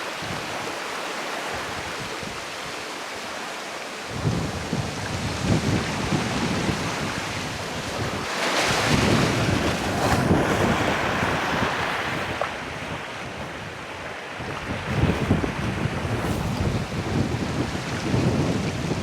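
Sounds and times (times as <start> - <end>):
ocean surf washing ashore: 0.0 - 19.0
wind buffeting the microphone: 0.2 - 0.8, 1.5 - 2.8, 4.1 - 19.0.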